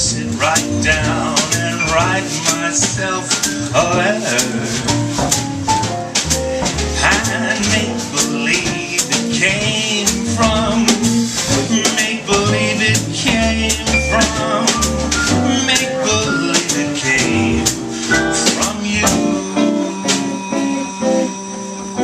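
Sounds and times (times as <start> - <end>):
brushed drums: 0.0 - 22.0
jazz chords: 0.0 - 22.0
walking bass line: 0.0 - 22.0.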